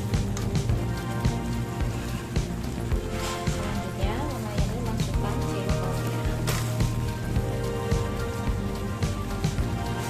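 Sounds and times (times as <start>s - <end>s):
background music with beat: 0.0s - 10.0s
faint sizzle of food cooking: 0.0s - 10.0s.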